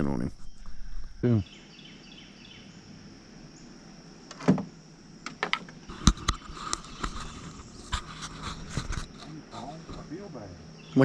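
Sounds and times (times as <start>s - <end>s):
high drone of insects: 0.0s - 11.0s.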